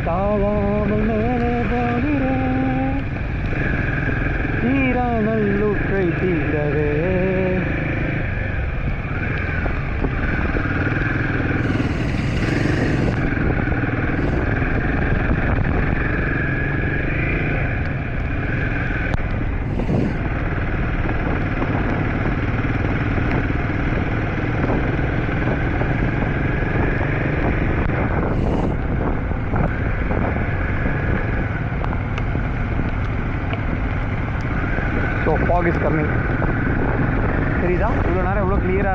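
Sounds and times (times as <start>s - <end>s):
motorcycle engine running: 0.0s - 38.9s
wind rushing on microphone: 0.0s - 38.9s.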